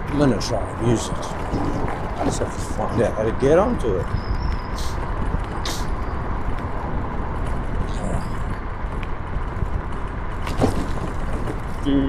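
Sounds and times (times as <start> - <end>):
road traffic noise: 0.0 - 12.0
wind rumble on microphone: 0.0 - 12.0.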